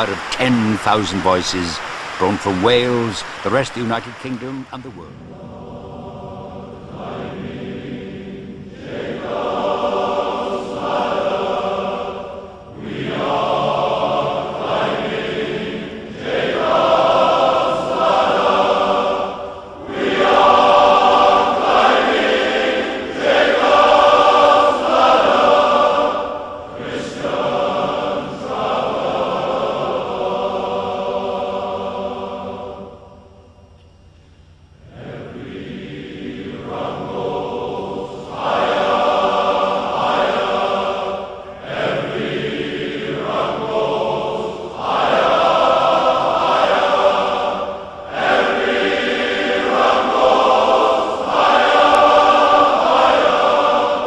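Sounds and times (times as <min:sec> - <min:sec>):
male choir singing: 0:00.0 - 0:33.1, 0:34.8 - 0:54.0.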